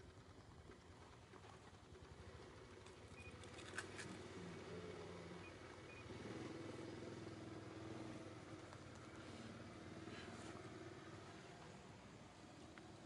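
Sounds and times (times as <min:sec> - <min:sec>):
distant engine hum: 0:00.0 - 0:13.0.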